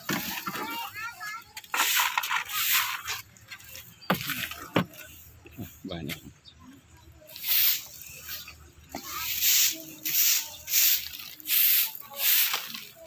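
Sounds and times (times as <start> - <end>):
broom bristles scraping pavement: 0.0 - 5.8, 7.3 - 13.0.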